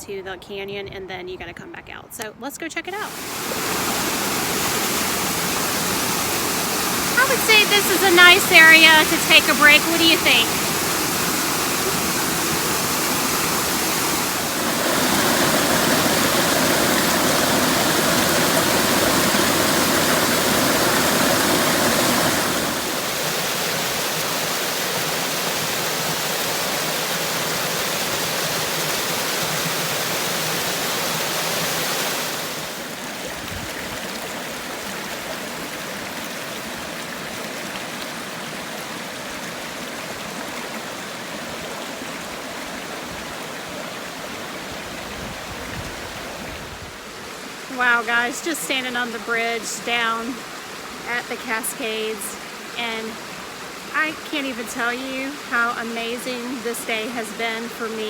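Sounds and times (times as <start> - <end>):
water rushing down rocky cascades: 3.0 - 58.0.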